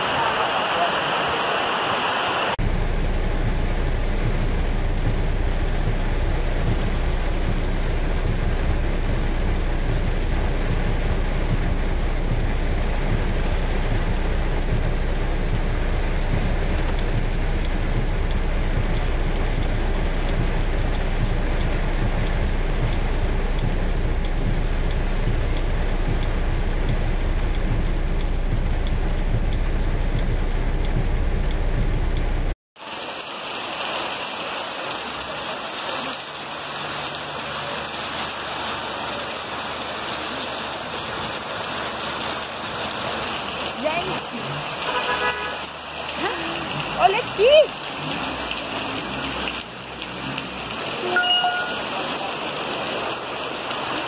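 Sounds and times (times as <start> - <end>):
floodwater rushing down street: 0.0 - 54.0
heavy rain: 0.0 - 54.0.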